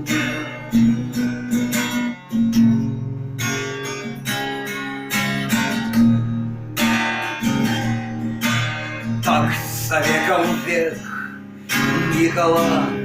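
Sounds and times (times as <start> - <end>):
acoustic guitar strummed in chords: 0.0 - 13.0.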